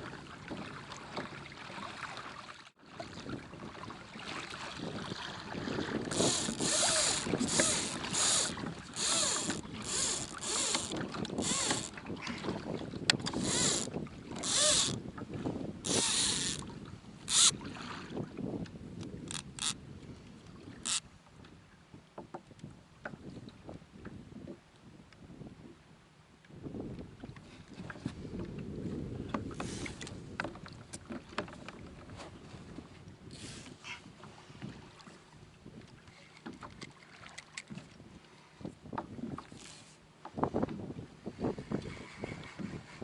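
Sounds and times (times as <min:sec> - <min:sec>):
water splashing around a kayak: 0:00.0 - 0:25.4, 0:26.6 - 0:43.0.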